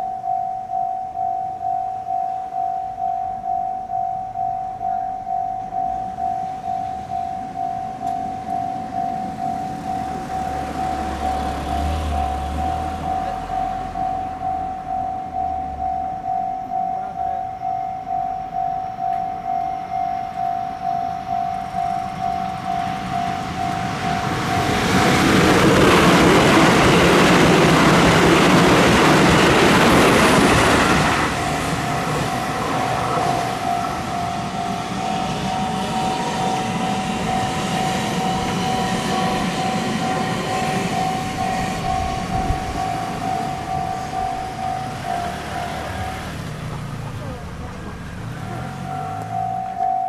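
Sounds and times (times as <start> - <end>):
level-crossing warning bell: 0.0 - 50.0
train rushing past: 5.2 - 50.0.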